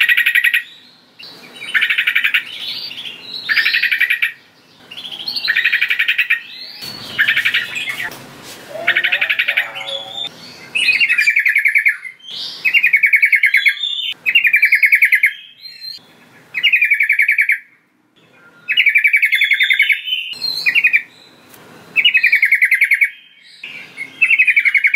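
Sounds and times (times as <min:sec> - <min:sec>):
bulbul singing: 0:00.0 - 0:24.9.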